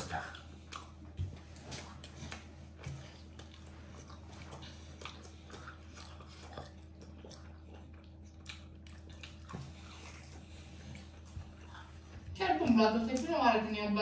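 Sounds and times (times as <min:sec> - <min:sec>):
people chewing: 0:00.0 - 0:13.4
low steady hum: 0:00.0 - 0:14.0.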